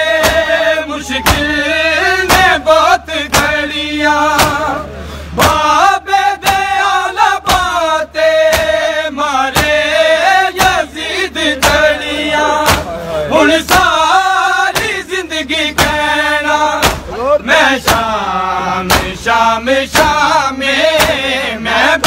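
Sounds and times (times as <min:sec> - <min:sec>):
crowd striking chests in unison: 0:00.0 - 0:22.0
men chanting: 0:00.0 - 0:22.0.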